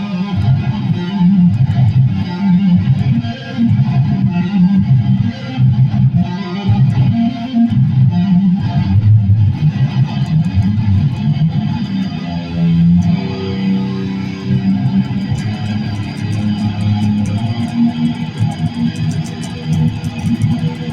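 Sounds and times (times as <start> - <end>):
guitar playing: 0.0 - 20.9.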